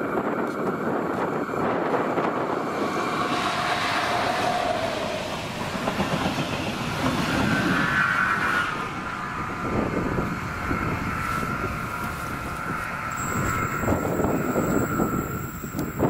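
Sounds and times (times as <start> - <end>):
passing train whine and rumble: 0.0 - 16.0
wind buffeting microphone: 0.0 - 16.0.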